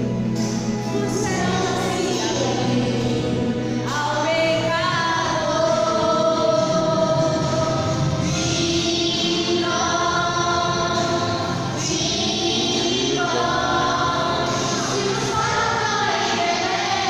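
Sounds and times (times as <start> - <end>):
musical accompaniment: 0.0 - 17.0
children singing gospel song: 0.4 - 17.0.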